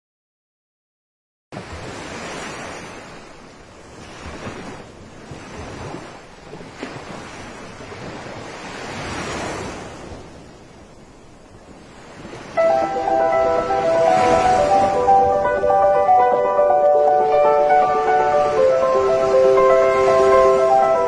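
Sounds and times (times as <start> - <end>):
waves breaking ashore: 1.6 - 21.0.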